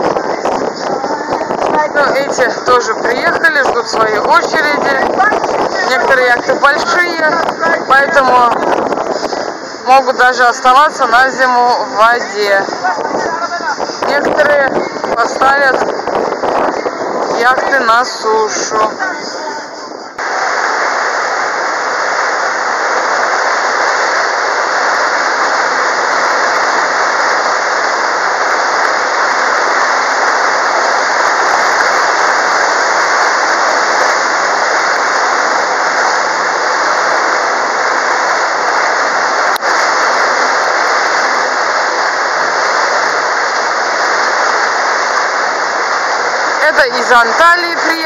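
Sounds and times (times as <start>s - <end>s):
wind and water rushing: 0.0s - 48.0s.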